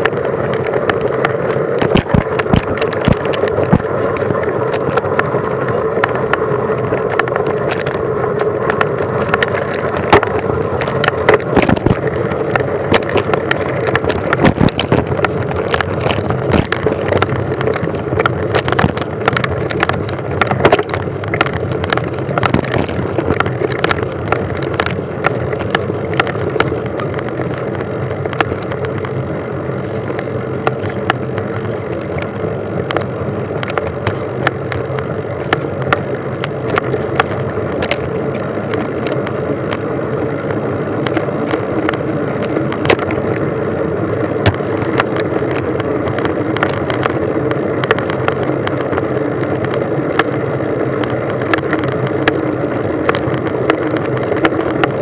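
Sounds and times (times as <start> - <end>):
vehicle rolling over rough track: 0.0 - 55.0.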